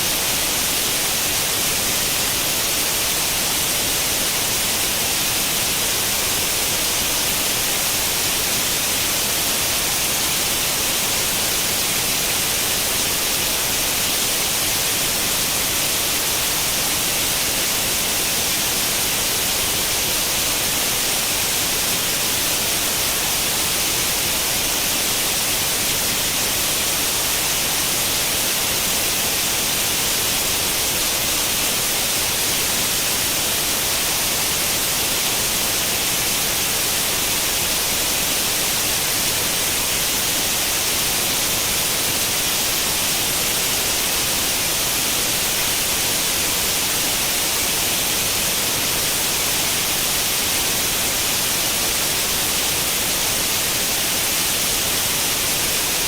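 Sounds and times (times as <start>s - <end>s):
white noise static hiss: 0.0s - 56.0s.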